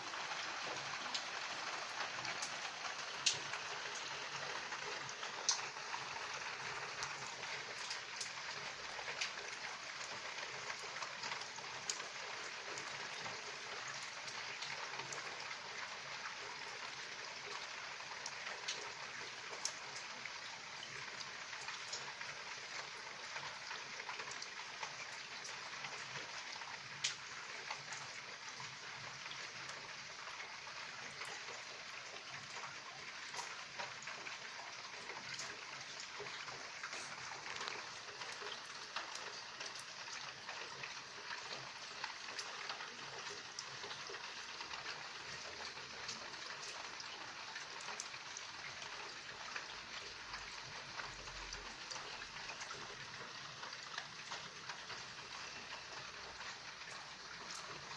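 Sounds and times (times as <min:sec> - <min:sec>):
rain patter: 0:00.0 - 0:57.9.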